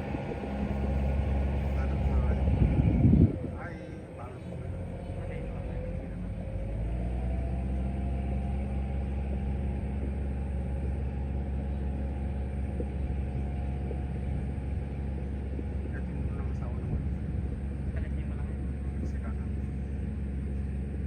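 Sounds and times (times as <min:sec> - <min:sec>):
harvester engine droning: 0:00.0 - 0:21.0.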